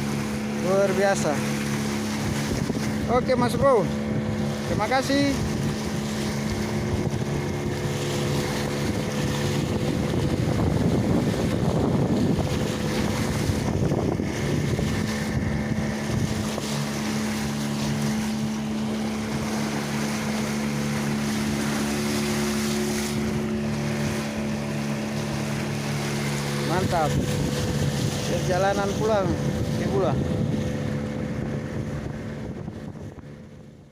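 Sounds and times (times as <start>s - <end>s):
outboard engine running: 0.0s - 33.9s
water rushing against hull: 0.0s - 33.9s
wind on microphone: 0.0s - 33.9s.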